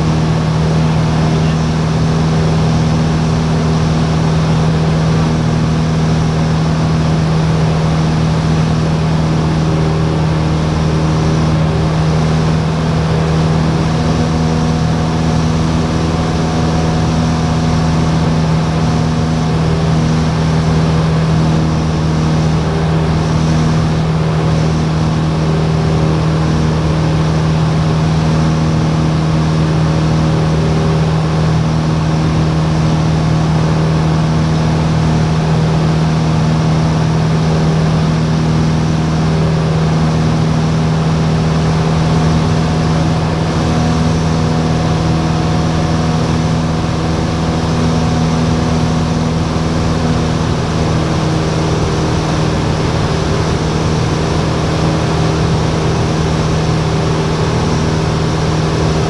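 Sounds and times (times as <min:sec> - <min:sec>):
propeller engine droning: 0:00.0 - 0:59.0.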